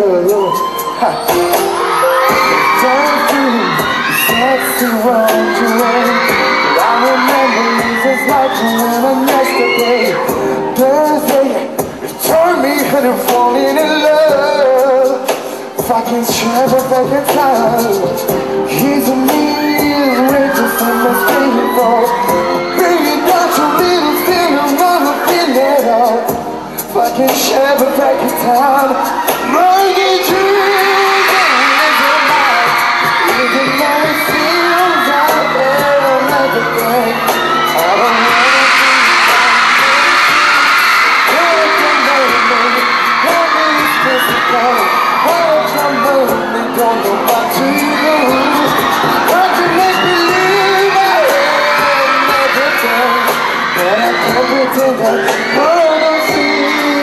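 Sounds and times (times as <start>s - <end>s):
audience cheering: 0.0s - 15.2s, 18.8s - 26.2s, 27.1s - 57.0s
man singing into microphone: 0.0s - 57.0s
pop backing track: 0.0s - 57.0s.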